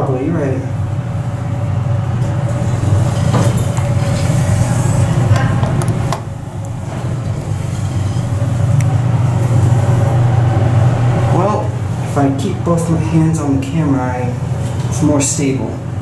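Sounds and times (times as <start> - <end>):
elevator cab hum: 0.0 - 16.0.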